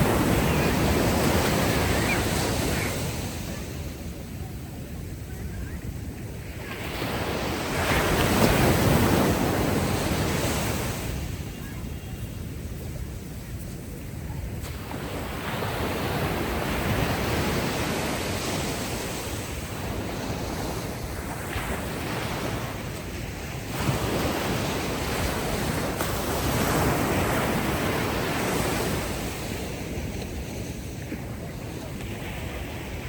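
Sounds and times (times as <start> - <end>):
ocean waves breaking: 0.0 - 33.0
wind: 0.0 - 33.0.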